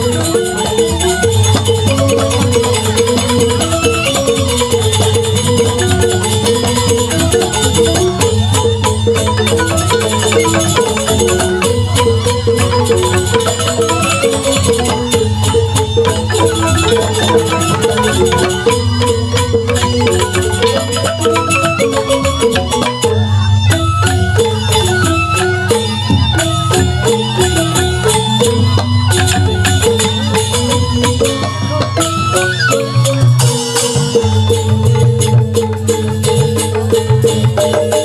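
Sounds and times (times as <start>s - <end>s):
bamboo flutes: 0.0s - 38.0s
bamboo xylophones interlocking: 0.0s - 38.0s
hand drums: 0.0s - 38.0s.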